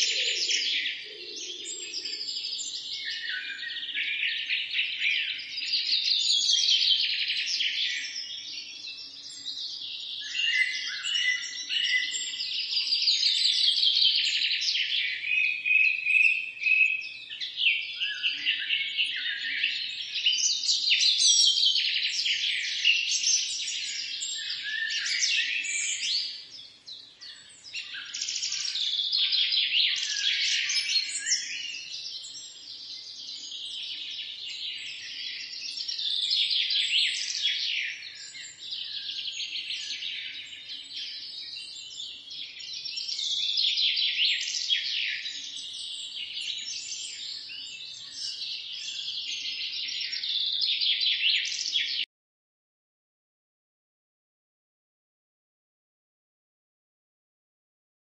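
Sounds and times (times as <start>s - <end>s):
songbirds chirping and trilling: 0.0s - 52.1s.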